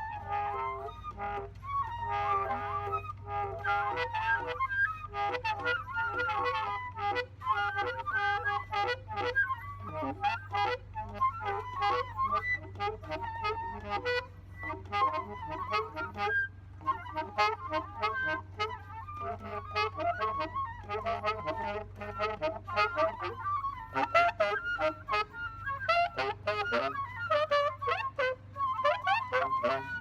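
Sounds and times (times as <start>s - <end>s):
instrumental jam: 0.0s - 30.0s.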